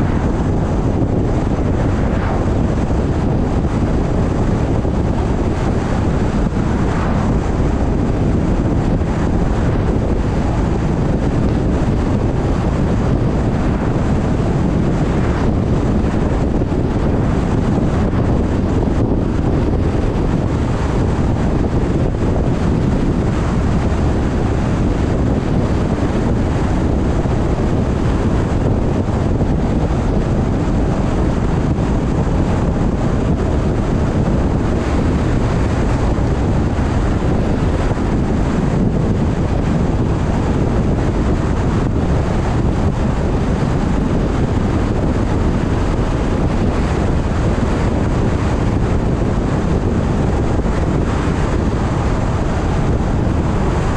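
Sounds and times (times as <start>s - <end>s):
car road noise rumble: 0.0s - 53.9s
wind on microphone: 0.0s - 53.9s.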